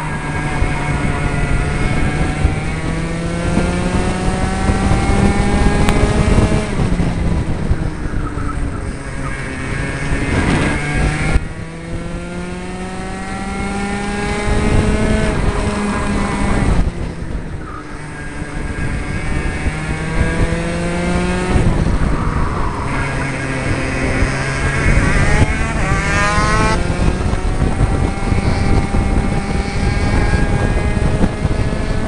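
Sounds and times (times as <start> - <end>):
kart engine accelerating: 0.0 - 32.0.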